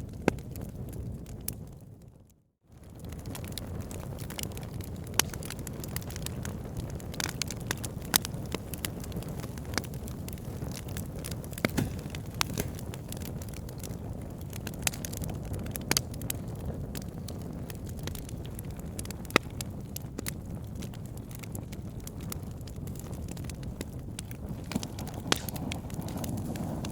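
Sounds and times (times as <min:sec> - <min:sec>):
wood fire crackling: 0:02.8 - 0:26.9.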